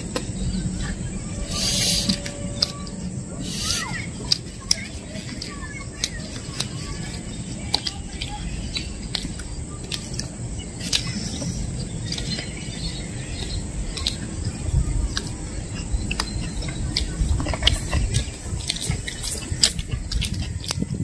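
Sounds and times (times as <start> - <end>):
birds chirping: 0.0 - 21.0
insects chirping: 0.0 - 21.0
people chewing and smacking: 0.0 - 21.0.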